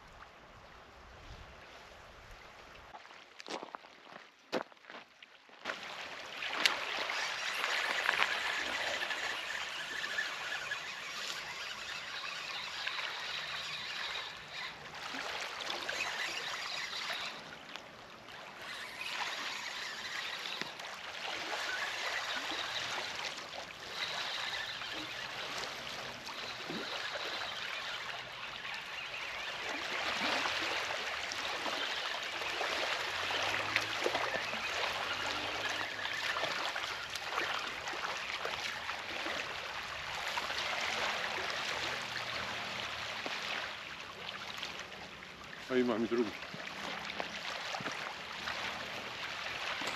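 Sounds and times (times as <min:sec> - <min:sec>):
small waves lapping on rocks: 0:02.8 - 0:49.9.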